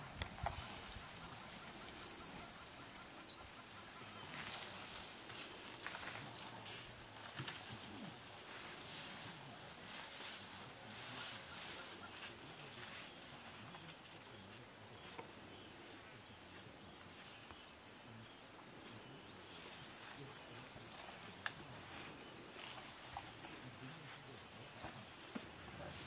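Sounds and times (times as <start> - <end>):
insects chirping: 0.0 - 26.0
steady hiss: 0.0 - 26.0.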